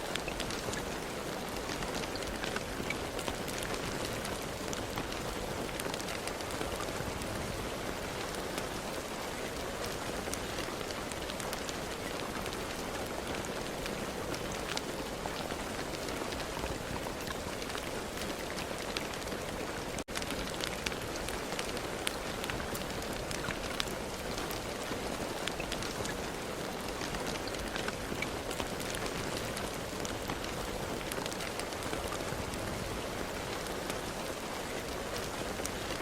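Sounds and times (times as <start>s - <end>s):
steady rain hissing: 0.0s - 36.0s.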